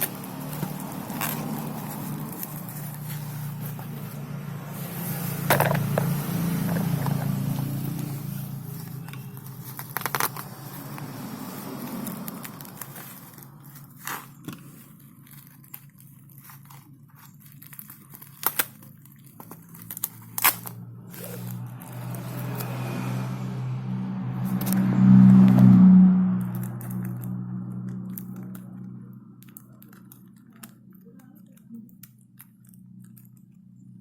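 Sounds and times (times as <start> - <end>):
packaging crinkling: 0.0 - 22.9, 26.4 - 34.0.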